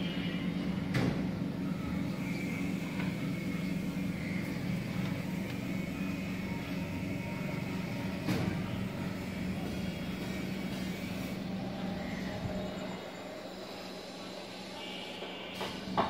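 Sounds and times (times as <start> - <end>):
hum of engines and traffic: 0.0 - 16.0.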